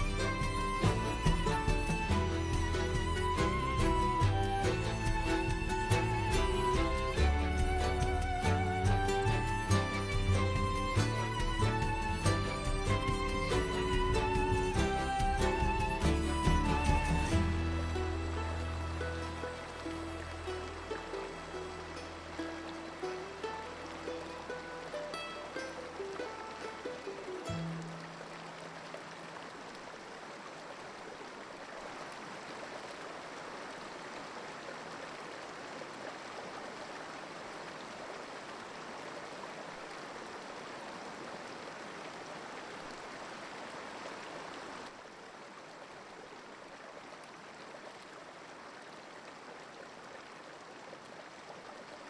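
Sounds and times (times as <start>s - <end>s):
flowing water rushing: 0.0s - 52.0s.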